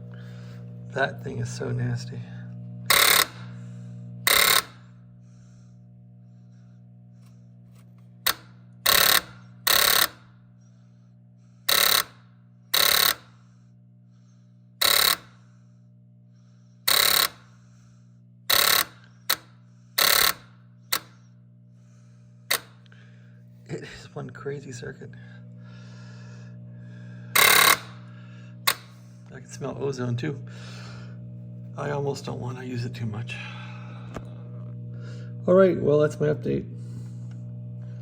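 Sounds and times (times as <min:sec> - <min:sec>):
mains hum: 0:00.0 - 0:38.0
motor switch buzzing bursts: 0:00.0 - 0:38.0.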